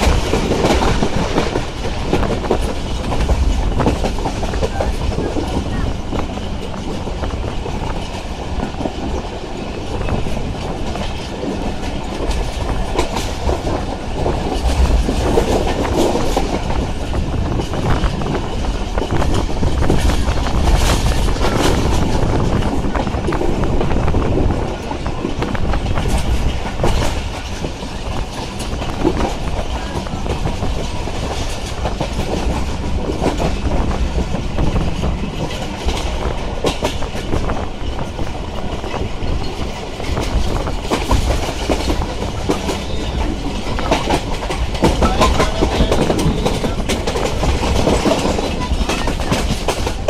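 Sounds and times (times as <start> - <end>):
train rumbling and rushing: 0.0 - 50.0.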